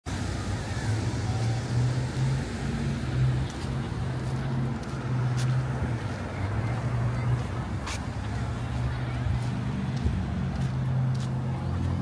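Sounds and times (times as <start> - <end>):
road traffic noise: 0.0 - 12.0
vehicle engine humming: 0.0 - 12.0.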